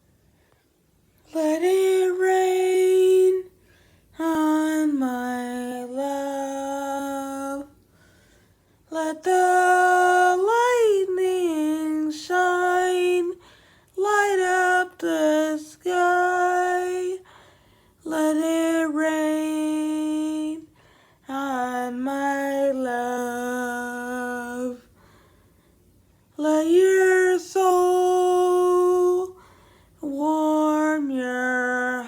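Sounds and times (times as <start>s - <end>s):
person singing unaccompanied: 1.2s - 3.6s, 4.2s - 7.8s, 8.9s - 17.3s, 18.0s - 24.9s, 26.4s - 32.0s.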